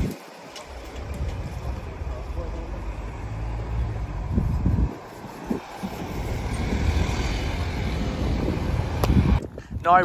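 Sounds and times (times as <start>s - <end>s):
vehicle rumble: 0.0s - 9.7s.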